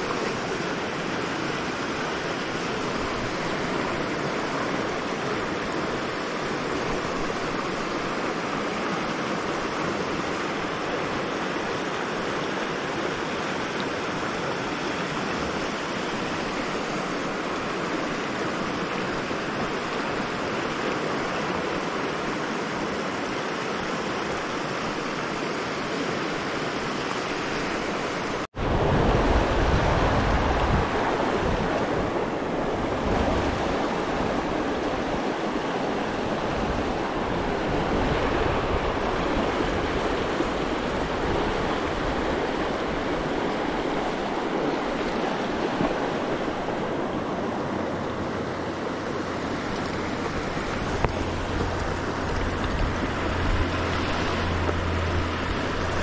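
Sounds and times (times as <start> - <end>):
river rushing over rapids: 0.0 - 56.0.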